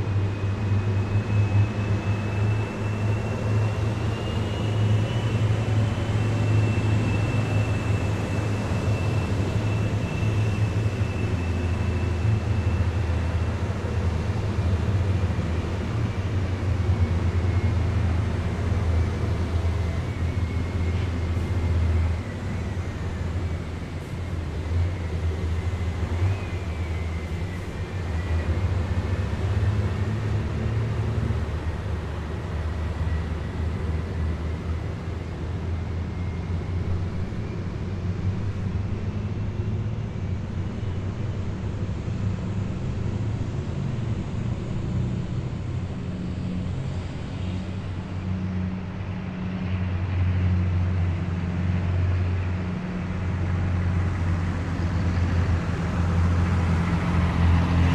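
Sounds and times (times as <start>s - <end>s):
heavy vehicles driving past: 0.0s - 40.6s, 41.2s - 57.9s
faint high whine: 0.0s - 57.9s.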